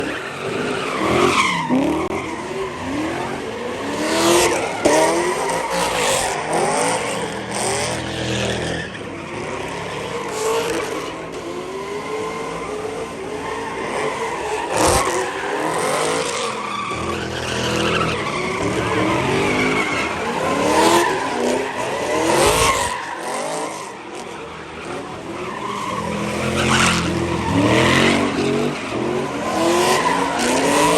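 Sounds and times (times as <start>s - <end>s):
car engines revving hard: 0.0s - 30.9s.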